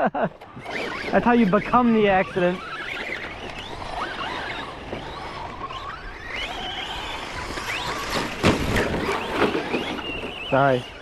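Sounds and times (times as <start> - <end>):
rc truck electric motors whining: 0.2 - 11.0.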